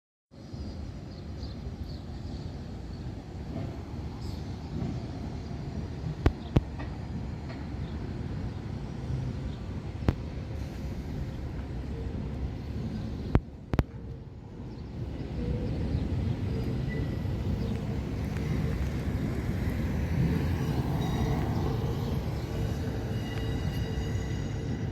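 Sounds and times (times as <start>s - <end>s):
bus engines rumbling: 0.4s - 24.9s.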